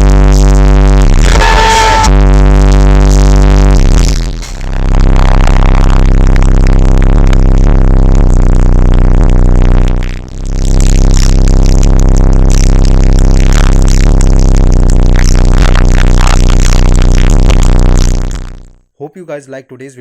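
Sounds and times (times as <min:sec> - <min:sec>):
distorted bass-heavy music: 0:00.0 - 0:18.9.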